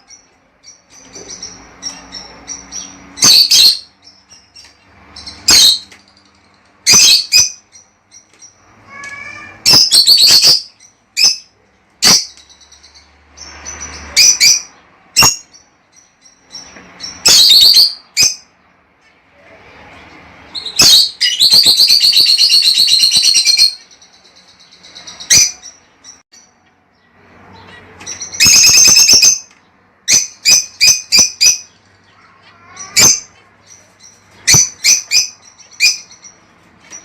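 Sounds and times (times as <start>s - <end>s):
lovebirds chirping shrilly: 0.0s - 18.6s, 20.1s - 37.0s.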